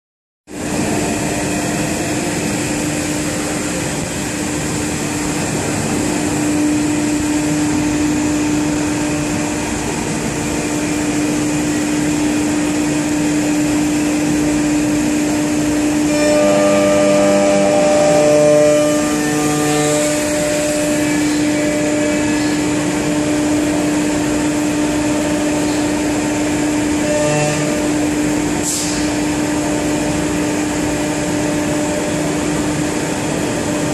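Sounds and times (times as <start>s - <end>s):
cnc router humming: 0.5s - 33.9s.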